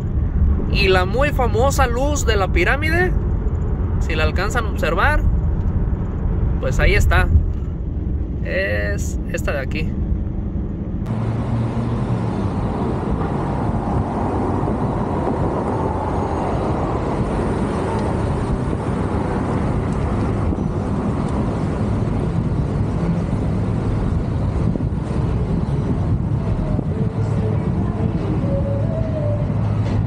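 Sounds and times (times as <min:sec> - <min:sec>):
car cabin road rumble: 0:00.0 - 0:30.0.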